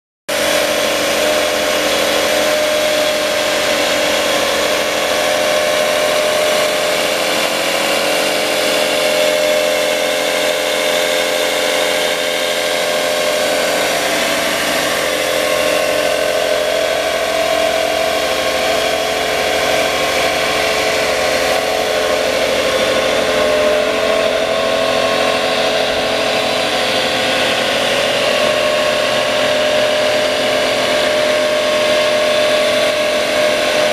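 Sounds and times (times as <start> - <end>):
belt sander running: 0.3 - 33.9.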